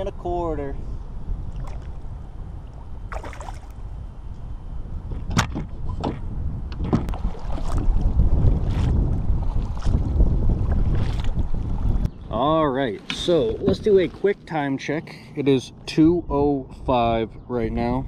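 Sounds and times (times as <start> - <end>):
wind rumble on microphone: 0.0 - 14.6, 15.7 - 18.0.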